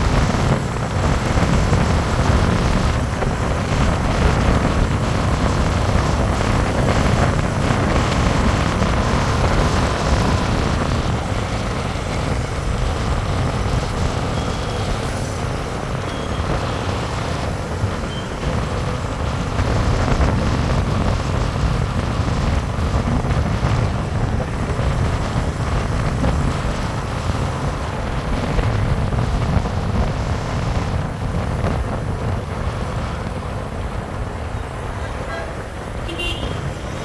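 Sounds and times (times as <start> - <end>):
road noise: 0.0 - 37.0
wind on microphone: 0.0 - 37.0.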